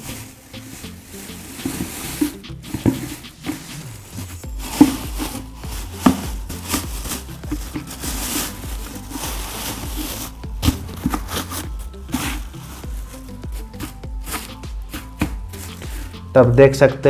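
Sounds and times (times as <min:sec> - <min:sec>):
plastic garbage bag rustling: 0:00.0 - 0:16.4.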